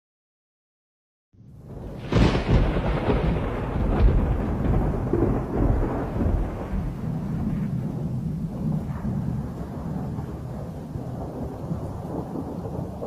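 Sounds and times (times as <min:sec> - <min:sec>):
thunder rumbling: 0:01.4 - 0:13.0.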